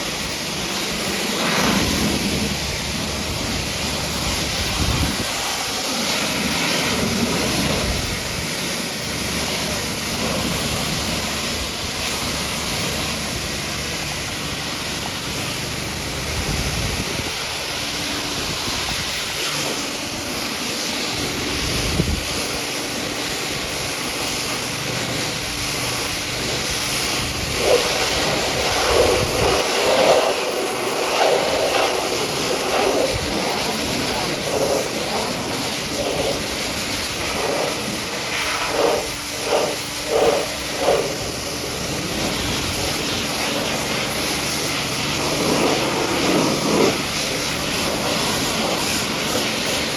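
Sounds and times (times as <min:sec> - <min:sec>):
pressure washer water jet spraying: 0:00.0 - 0:49.9.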